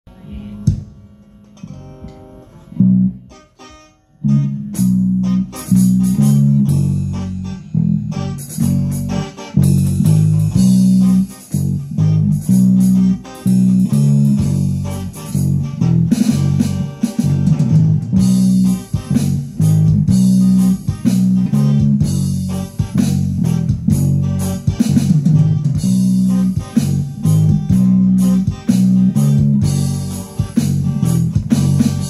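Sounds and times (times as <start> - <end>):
bass guitar riff: 0.1 - 32.0
guitar notes: 0.1 - 32.0
electronic drum beat: 4.8 - 32.0.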